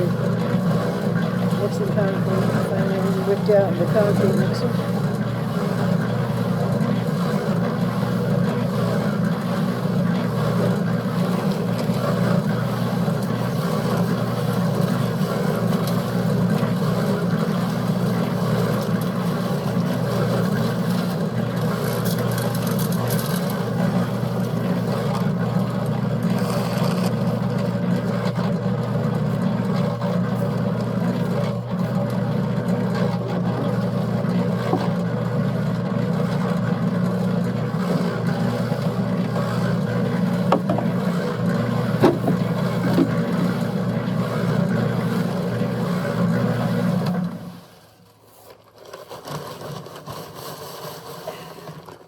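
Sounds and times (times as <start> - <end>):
concrete mixer running: 0.0 - 52.0.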